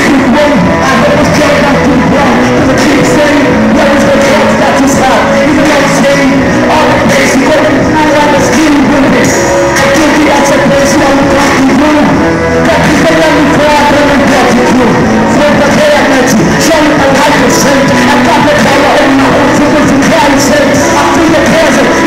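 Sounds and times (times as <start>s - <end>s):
backing music with steady beat: 0.0s - 22.0s.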